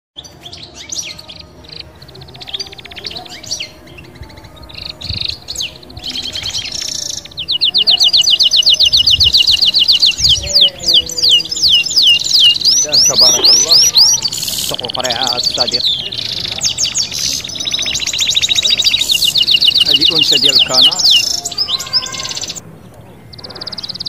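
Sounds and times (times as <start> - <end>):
songbird singing: 0.2 - 24.0.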